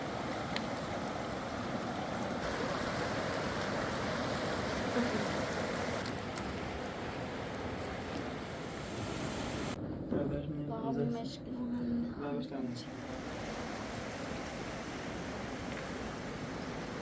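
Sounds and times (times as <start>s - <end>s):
rushing river water: 0.0s - 9.8s, 12.8s - 17.0s.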